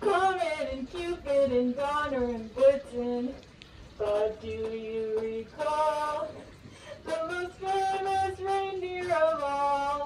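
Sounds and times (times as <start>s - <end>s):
woman singing slow tune: 0.0s - 10.0s.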